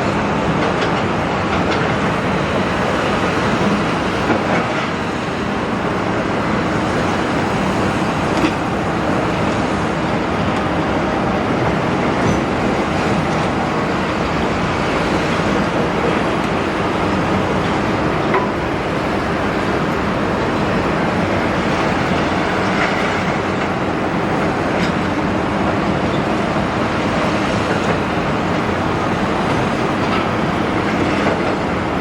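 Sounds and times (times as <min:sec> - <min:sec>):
excavator engine and hydraulics: 0:00.0 - 0:32.0.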